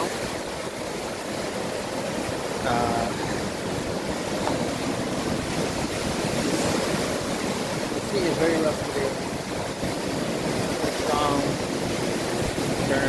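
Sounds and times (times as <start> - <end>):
sea surf breaking on rocks: 0.0 - 13.0.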